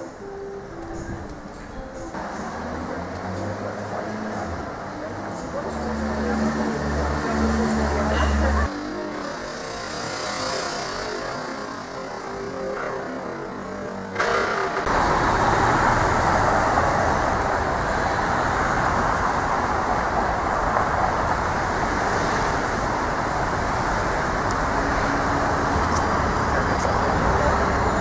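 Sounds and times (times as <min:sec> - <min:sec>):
passing cars: 0:00.1 - 0:28.0.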